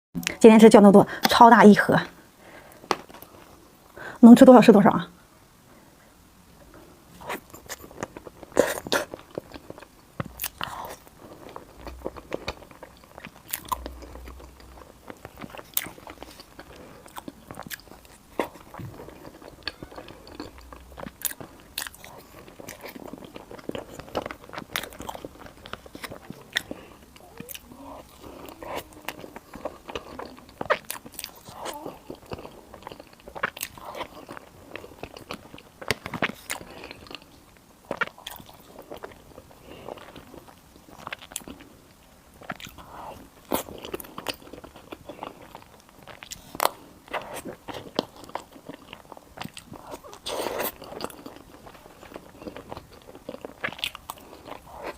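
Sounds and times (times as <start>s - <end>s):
person biting and chewing food: 7.2s - 41.7s, 42.4s - 54.9s.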